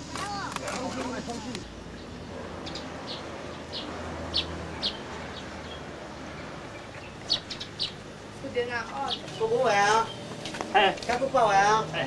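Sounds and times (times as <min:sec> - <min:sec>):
small bird chirping: 0:00.2 - 0:10.5.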